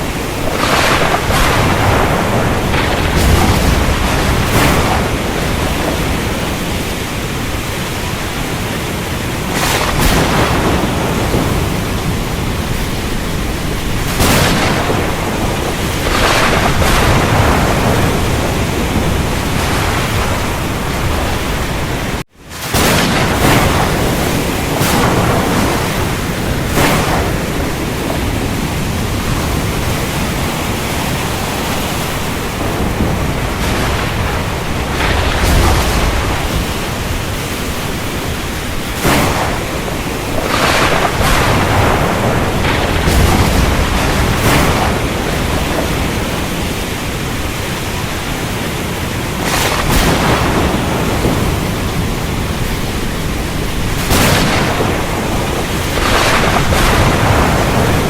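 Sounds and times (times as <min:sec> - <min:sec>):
heavy rain: 0:00.0 - 0:58.0
thunder: 0:00.0 - 0:58.0.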